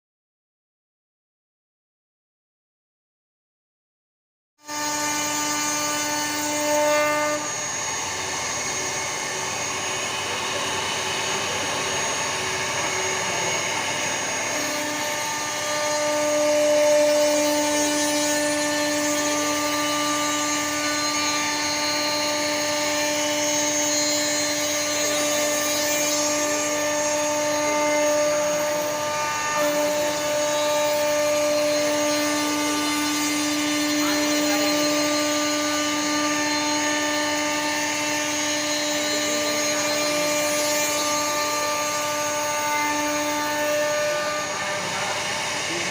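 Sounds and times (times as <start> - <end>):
router cutting wood hiss: 4.6 - 45.9
router spindle whine: 4.6 - 45.9.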